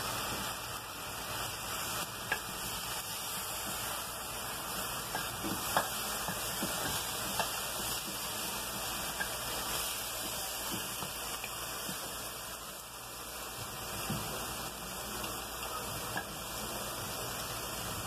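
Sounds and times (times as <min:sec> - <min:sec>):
meat sizzling in a pot: 0:00.0 - 0:18.0.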